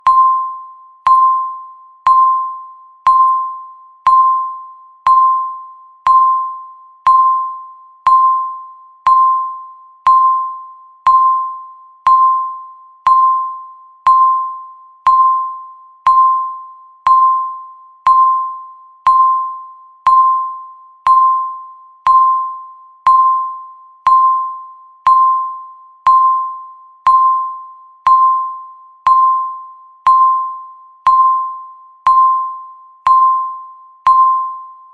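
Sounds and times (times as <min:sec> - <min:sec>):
electronic timer beeps: 0:00.0 - 0:34.9.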